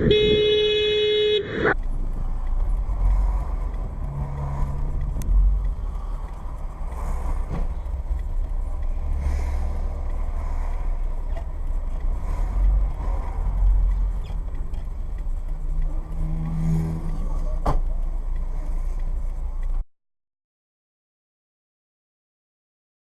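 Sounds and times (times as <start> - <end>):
engine and road noise rumble: 0.0 - 19.9.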